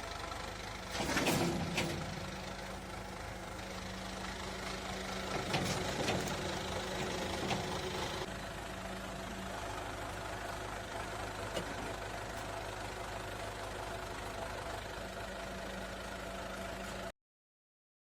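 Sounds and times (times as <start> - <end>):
car engine idling: 0.0 - 17.1.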